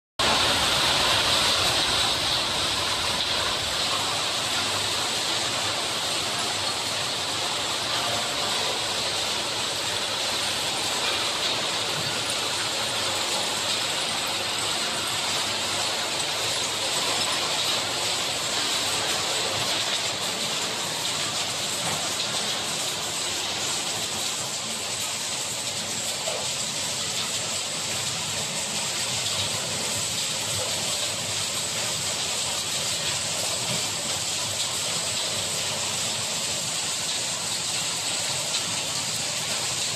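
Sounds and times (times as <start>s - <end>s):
strong high hiss: 0.2s - 39.9s.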